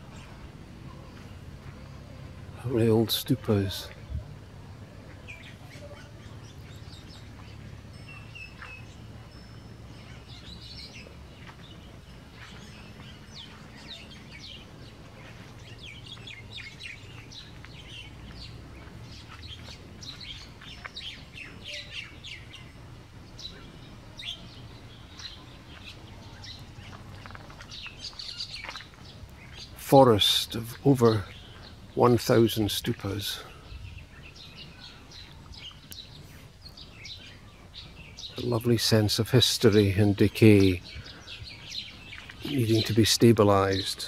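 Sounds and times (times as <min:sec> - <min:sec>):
birds chirping and calling: 0:00.0 - 0:44.0
low steady rumble: 0:00.0 - 0:44.0.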